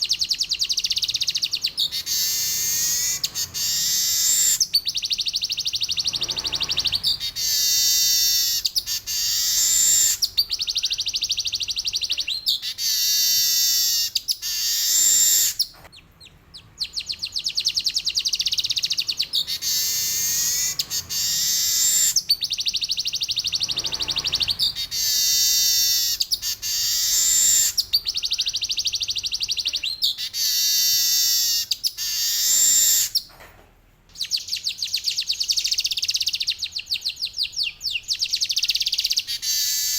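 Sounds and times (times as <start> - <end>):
weaver bird singing: 0.0 - 33.3, 34.1 - 39.9.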